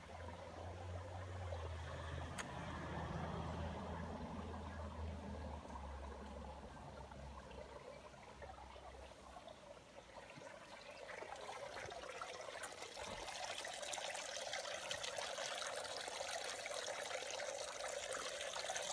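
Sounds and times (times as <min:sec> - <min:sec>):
garden waterfall splashing: 0:00.0 - 0:18.9.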